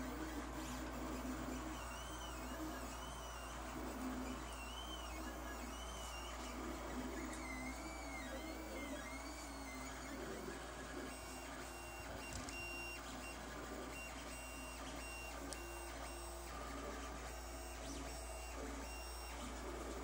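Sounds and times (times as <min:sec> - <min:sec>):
stepper motors whining: 0:00.0 - 0:20.0.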